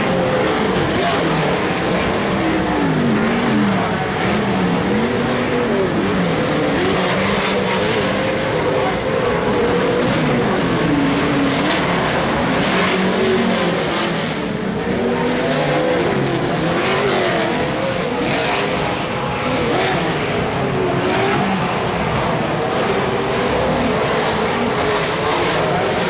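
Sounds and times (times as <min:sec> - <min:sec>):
racing engines revving: 0:00.0 - 0:26.0.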